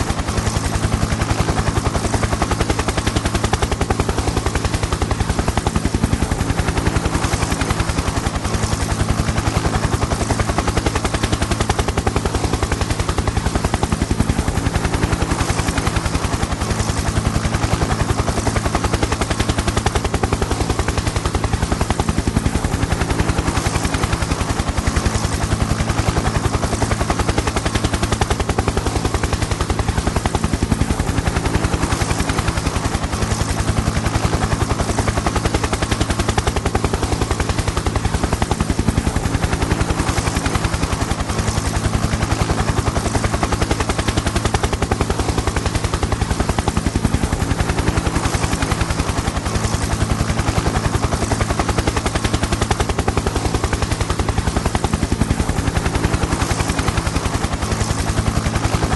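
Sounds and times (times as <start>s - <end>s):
helicopter rotor chop: 0.0s - 58.9s.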